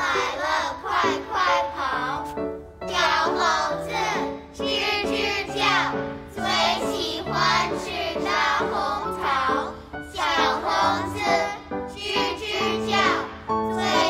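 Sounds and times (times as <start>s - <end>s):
children singing: 0.0s - 2.3s, 2.9s - 14.0s.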